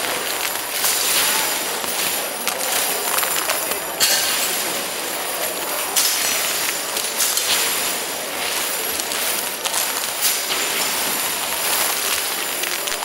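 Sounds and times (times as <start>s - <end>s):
metal scraps clattering on metal: 0.0s - 13.0s.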